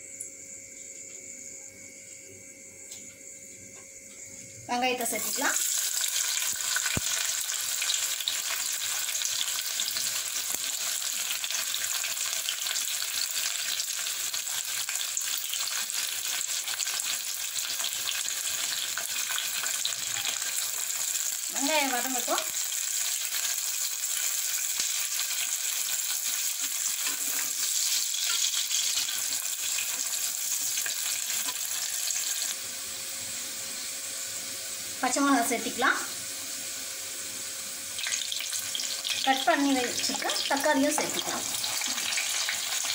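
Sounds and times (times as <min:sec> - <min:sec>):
onions sizzling in oil: 0:04.7 - 0:42.9.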